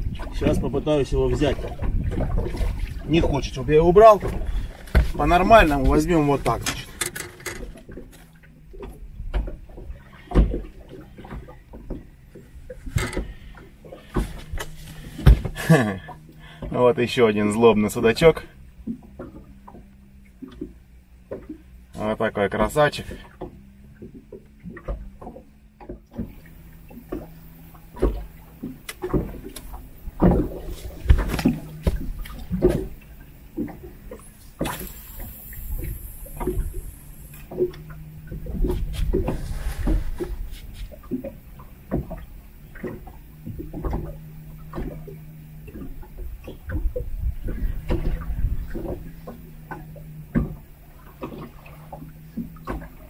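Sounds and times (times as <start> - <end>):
fish flapping in inflatable boat: 0.0 - 16.7, 26.1 - 53.0.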